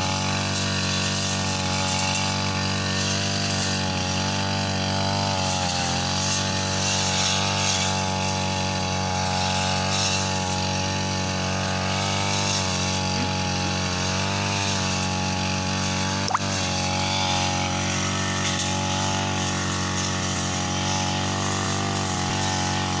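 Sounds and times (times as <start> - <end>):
brush cutter running: 0.0 - 23.0.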